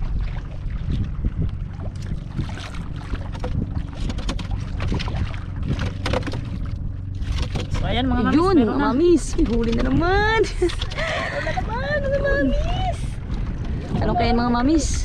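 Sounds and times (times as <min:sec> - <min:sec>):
steady low hum: 0:00.0 - 0:15.0
water splashes: 0:00.0 - 0:15.0
wind buffeting microphone: 0:00.0 - 0:15.0.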